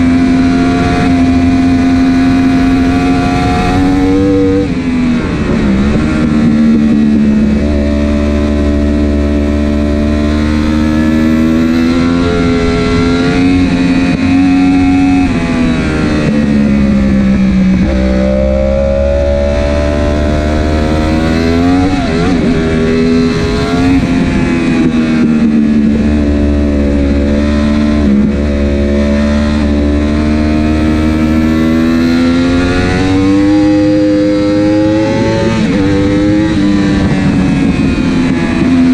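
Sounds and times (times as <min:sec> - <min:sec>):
superbike engine accelerating: 0:00.0 - 0:38.9.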